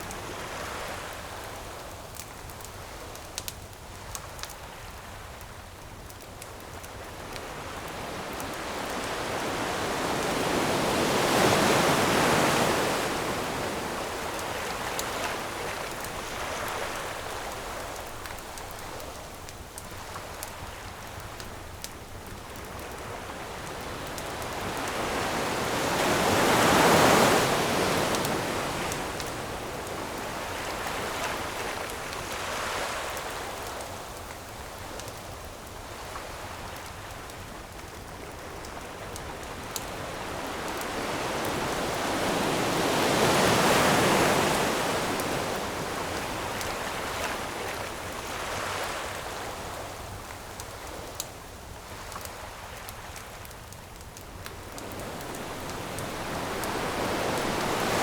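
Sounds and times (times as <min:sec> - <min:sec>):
campfire crackling: 0:00.0 - 0:58.0
ocean waves on shore: 0:06.4 - 0:58.0.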